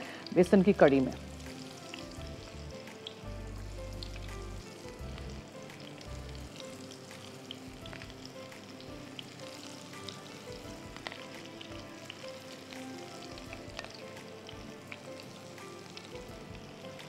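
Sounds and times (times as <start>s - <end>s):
food deep-frying in oil: 0.0s - 17.0s
oil popping and crackling: 0.0s - 17.0s.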